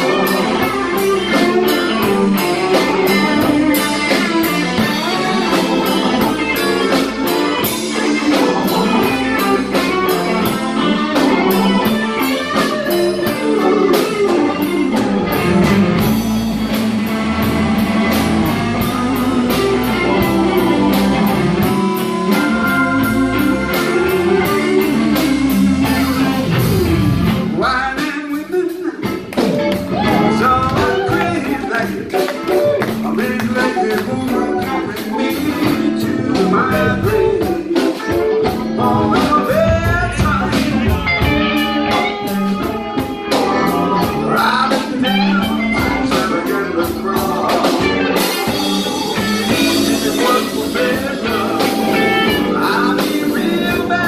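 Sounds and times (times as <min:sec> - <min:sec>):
electric guitar: 0:00.0 - 0:54.0
live blues band: 0:00.0 - 0:54.0.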